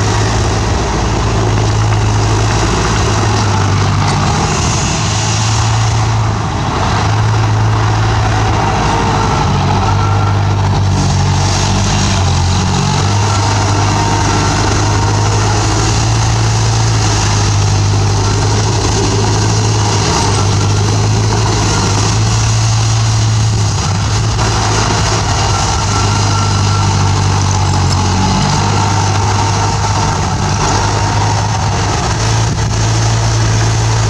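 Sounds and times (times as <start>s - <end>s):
bulldozer diesel engine droning: 0.0s - 34.0s.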